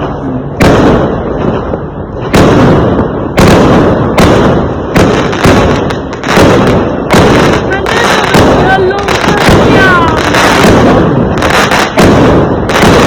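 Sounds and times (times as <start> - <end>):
fireworks exploding: 0.0 - 13.0
rumbling echo: 0.0 - 13.0.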